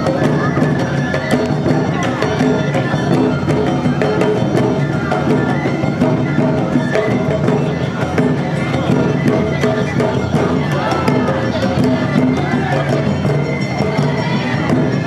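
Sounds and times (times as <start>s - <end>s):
bamboo flute melody: 0.0s - 15.0s
bell striking rhythm: 0.0s - 15.0s
taiko drums: 0.0s - 15.0s.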